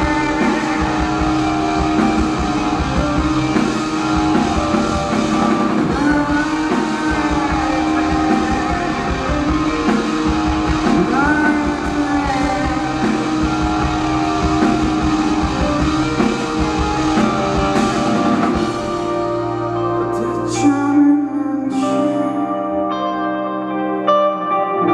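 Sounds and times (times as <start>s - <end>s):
drum kit: 0.0s - 20.6s
bass guitar: 0.0s - 24.9s
electric guitars: 0.0s - 24.9s.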